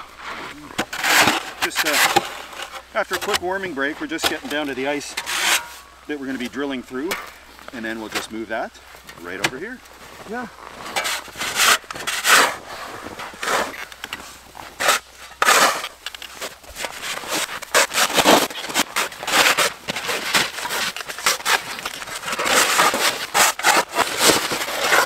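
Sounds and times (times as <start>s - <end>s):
snow shovels scraping on ice: 0.0s - 25.0s.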